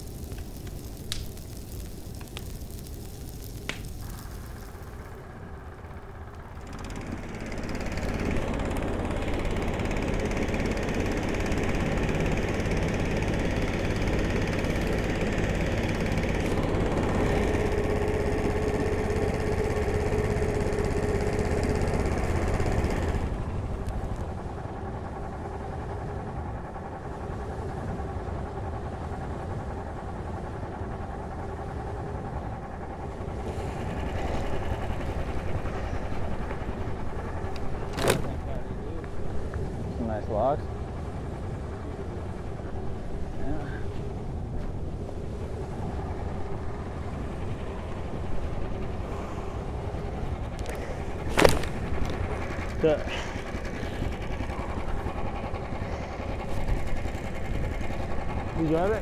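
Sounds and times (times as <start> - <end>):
snowmobile engine running: 0.0 - 44.5, 45.2 - 59.0.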